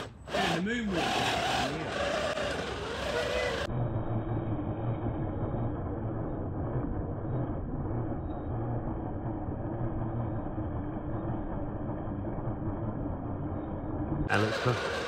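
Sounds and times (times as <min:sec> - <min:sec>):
electric motor and gearbox rumbling: 0:00.0 - 0:15.0.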